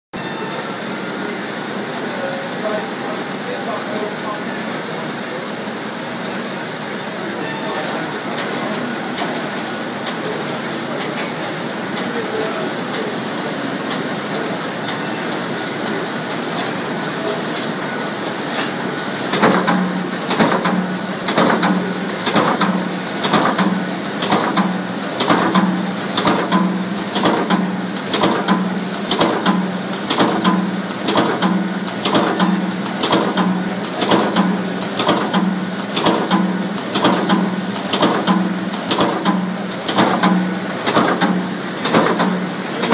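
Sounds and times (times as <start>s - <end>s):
machinery whirring: 0.2s - 42.9s.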